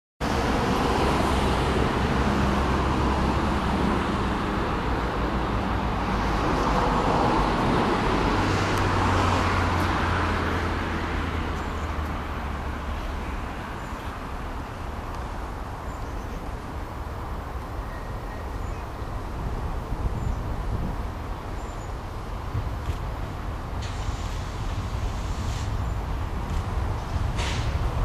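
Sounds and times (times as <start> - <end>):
traffic rumble: 0.2 - 28.0.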